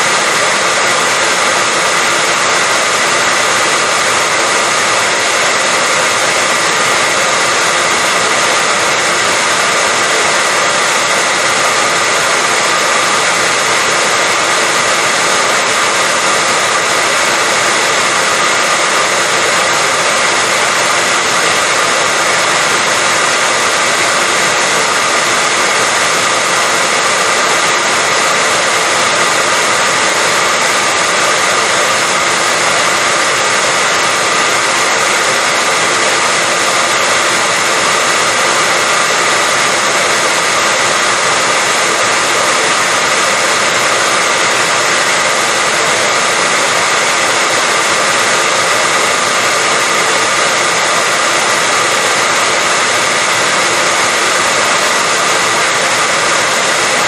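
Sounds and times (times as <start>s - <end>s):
hair dryer blowing air: 0.0s - 57.0s.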